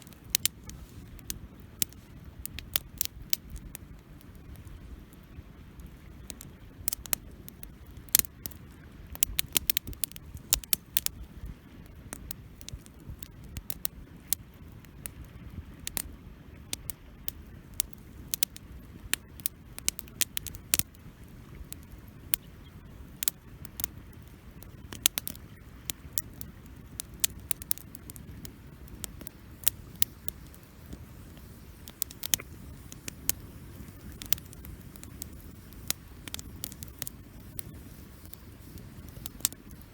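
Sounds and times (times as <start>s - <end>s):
campfire crackling and popping: 0.0s - 39.9s
fire burning rush: 0.0s - 39.9s.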